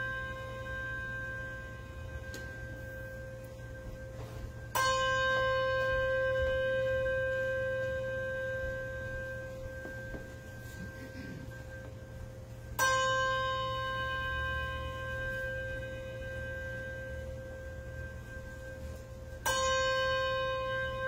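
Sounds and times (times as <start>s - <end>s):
bell tolling: 0.0s - 21.0s.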